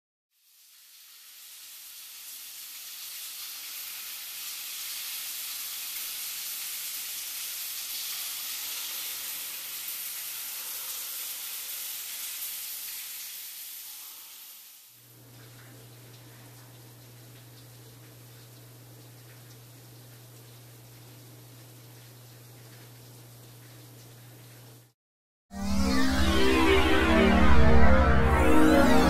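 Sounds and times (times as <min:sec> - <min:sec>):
rain on concrete and lawn: 0:00.3 - 0:25.0.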